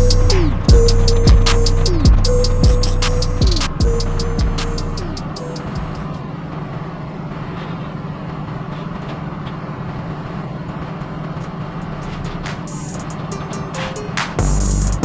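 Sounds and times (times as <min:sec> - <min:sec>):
road noise: 0:00.0 - 0:15.0
vehicle engine rumbling: 0:00.0 - 0:15.0.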